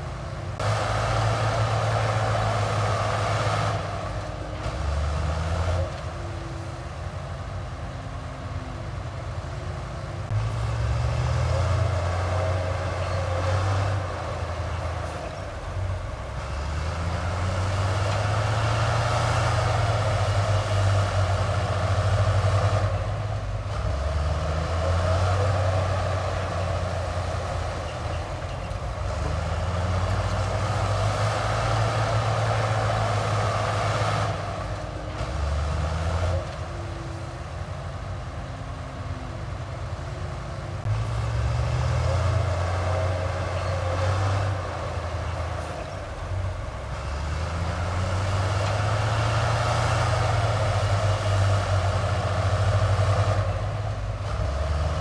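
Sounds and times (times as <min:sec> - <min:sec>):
heavy diesel engine working: 0:00.0 - 0:55.0.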